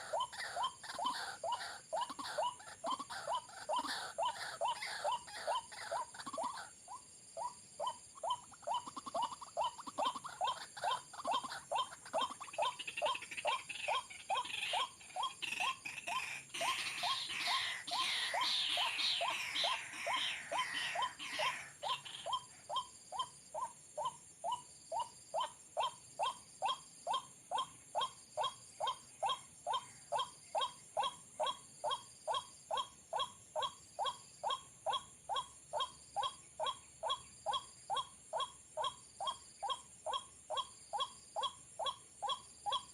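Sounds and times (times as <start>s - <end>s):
harsh bird chattering: 0.0s - 42.9s.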